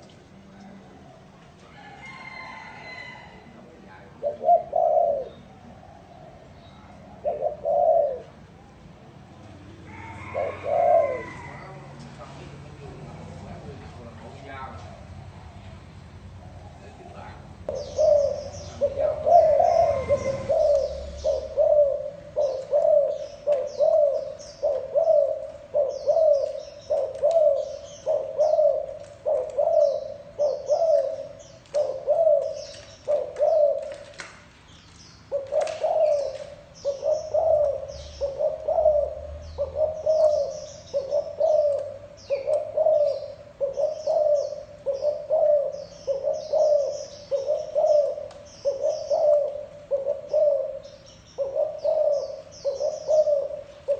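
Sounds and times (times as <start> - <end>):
dove cooing: 0.0 - 15.8, 16.4 - 53.9
birds chirping: 0.0 - 53.9.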